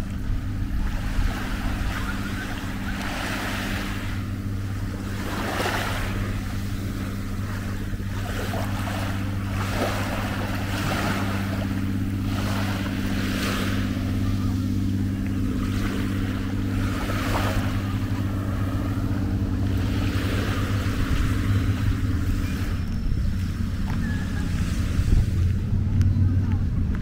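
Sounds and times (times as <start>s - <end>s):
small sea waves washing in: 0.0s - 25.8s
steady low hum: 0.0s - 27.0s.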